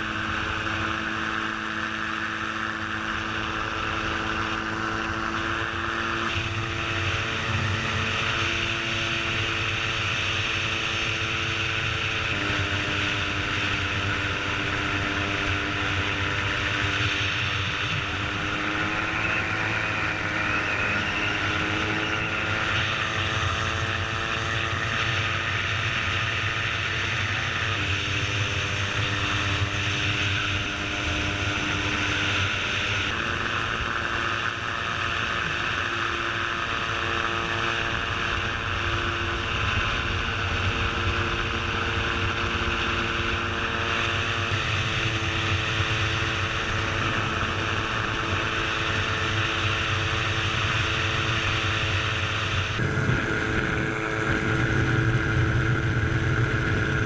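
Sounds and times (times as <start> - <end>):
gyroplane engine and propeller: 0.0 - 57.0.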